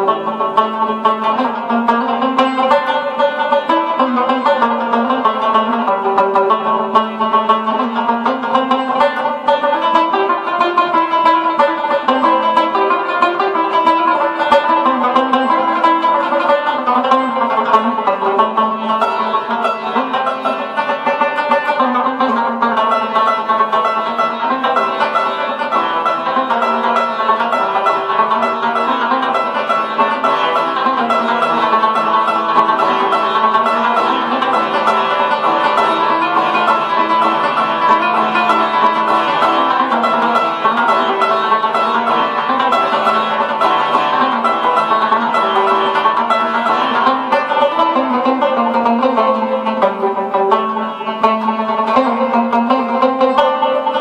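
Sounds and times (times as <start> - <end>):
plucked lute solo: 0.0 - 54.0.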